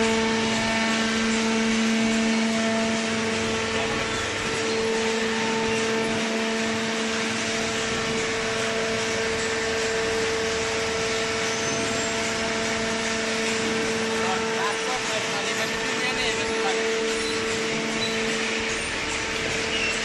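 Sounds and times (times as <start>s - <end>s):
hydraulic pump motor humming: 0.0s - 20.0s.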